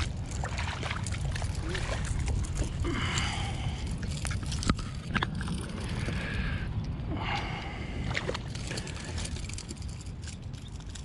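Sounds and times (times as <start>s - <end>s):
steady low rumble: 0.0s - 11.0s
water sloshing and lapping: 0.0s - 11.0s.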